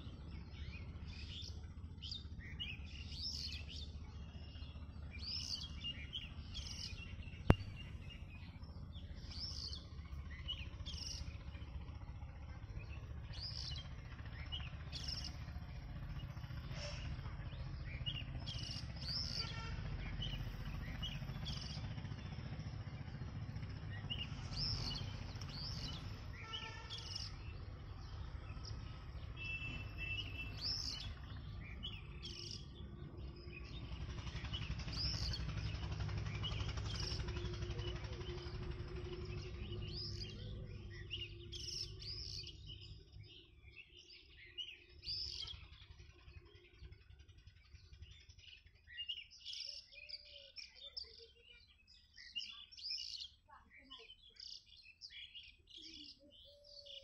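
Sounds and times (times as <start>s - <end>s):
low steady rumble: 0.0s - 50.1s
small birds chirping: 0.0s - 57.0s.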